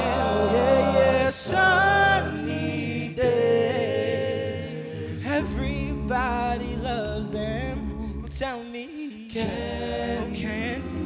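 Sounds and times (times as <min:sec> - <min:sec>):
male a cappella group singing: 0:00.0 - 0:11.0.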